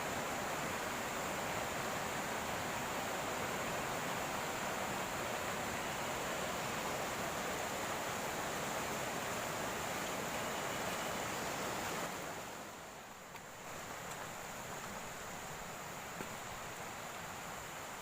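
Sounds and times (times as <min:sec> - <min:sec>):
fast-flowing river rushing: 0:00.0 - 0:18.0.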